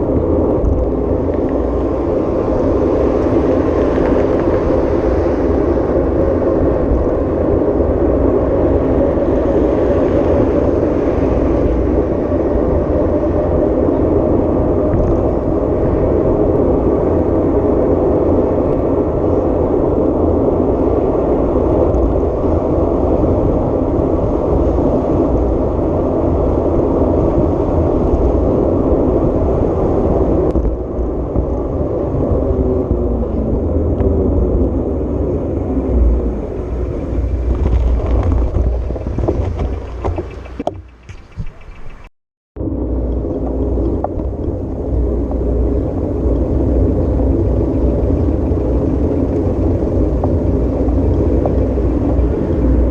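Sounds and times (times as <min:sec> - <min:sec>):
vehicle engine and tyre rumble: 0:00.0 - 0:52.9.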